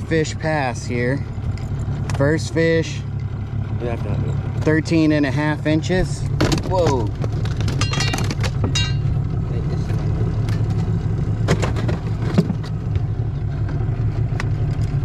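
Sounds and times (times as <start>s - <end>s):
outboard motor humming: 0.0s - 15.0s.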